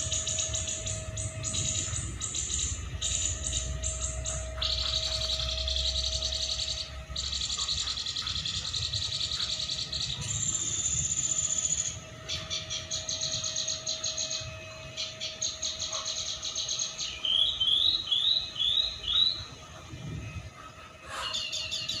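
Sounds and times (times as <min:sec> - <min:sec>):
bird chirps and trills: 0:00.0 - 0:22.0.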